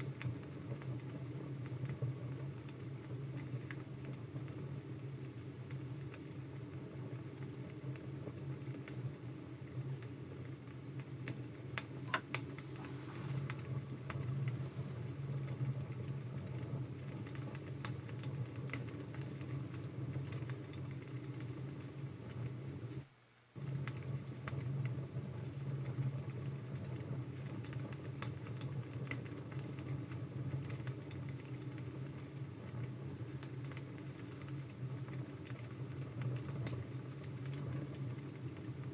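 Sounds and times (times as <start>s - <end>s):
wood fire crackling: 0.0s - 23.0s, 23.6s - 38.9s.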